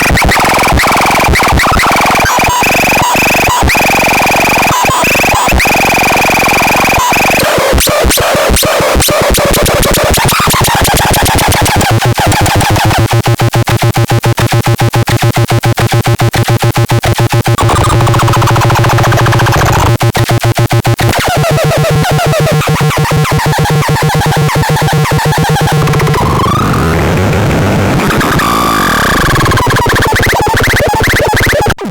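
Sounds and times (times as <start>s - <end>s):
harsh electronic buzzing tones: 0.0s - 31.9s.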